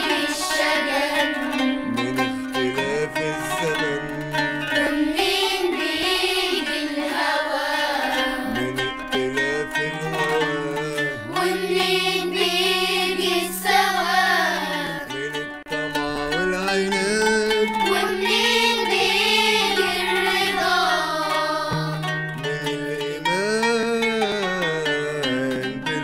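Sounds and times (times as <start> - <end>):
children's choir singing: 0.0 - 23.4
instrumental backing music: 0.0 - 26.0.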